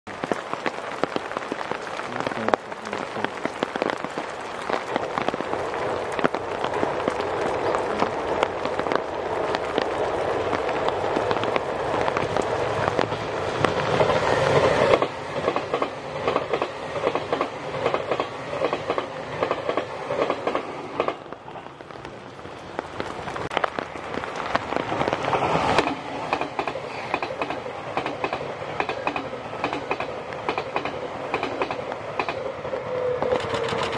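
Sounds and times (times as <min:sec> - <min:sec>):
clickety-clack over rail joints: 0:02.0 - 0:33.9
train wheels rumbling on rails: 0:02.0 - 0:33.9.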